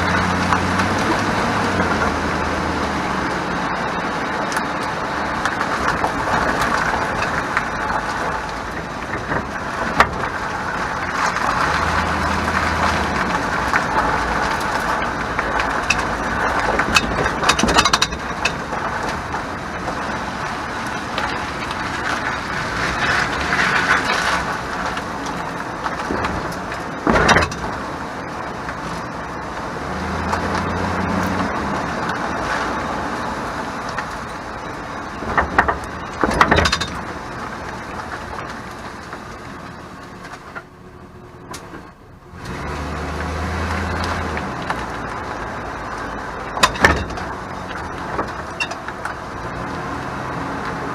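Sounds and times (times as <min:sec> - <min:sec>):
rattle from rear of truck: 0:00.0 - 0:28.5, 0:30.0 - 0:39.5, 0:46.1 - 0:49.6
road noise: 0:00.0 - 0:50.9.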